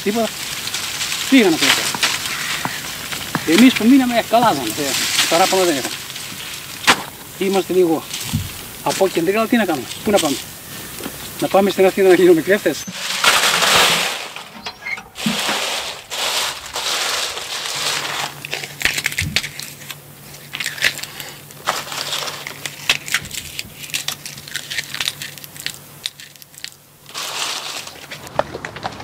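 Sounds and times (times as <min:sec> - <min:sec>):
dry bean pods crackling: 0:00.0 - 0:29.0.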